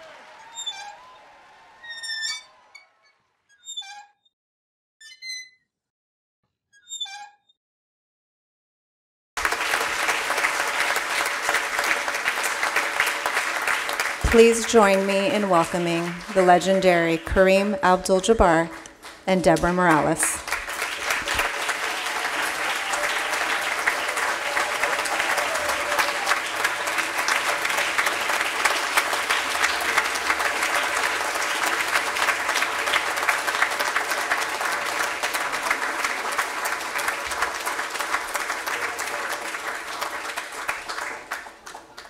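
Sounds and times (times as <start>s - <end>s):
audience applauding: 0.0s - 3.1s, 9.4s - 42.0s.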